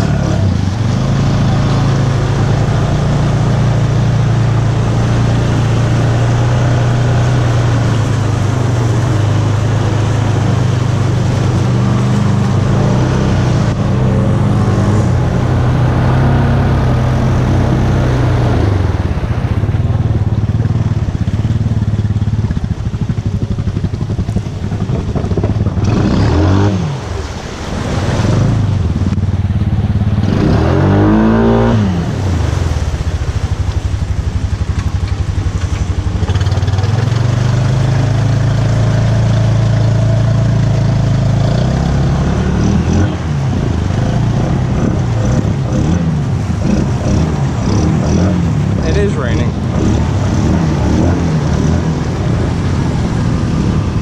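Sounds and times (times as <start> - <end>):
atv engine running under load: 0.0 - 54.0
water churning and splashing: 0.0 - 54.0.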